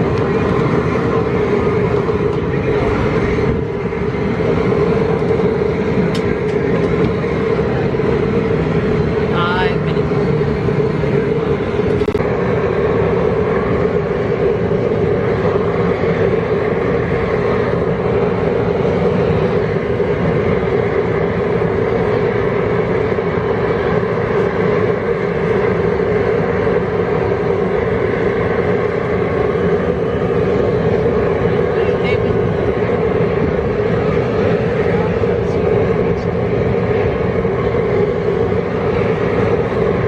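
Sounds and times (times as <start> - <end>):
propane burner rushing: 0.0 - 40.0
steady hum: 0.0 - 40.0.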